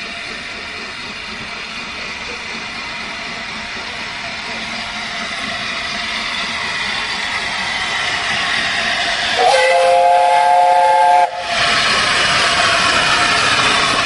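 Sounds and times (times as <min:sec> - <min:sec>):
steam locomotive hiss: 0:00.0 - 0:14.0.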